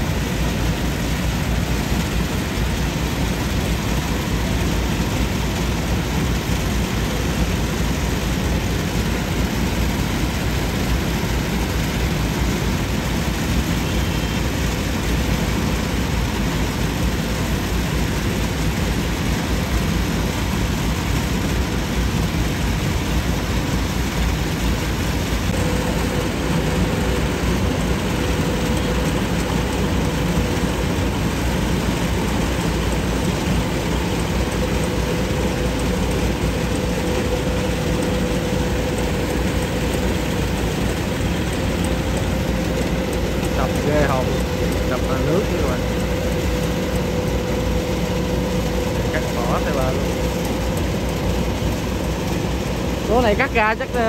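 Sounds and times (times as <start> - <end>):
combine harvester running: 0.0 - 54.0
faint steady whine: 0.0 - 54.0.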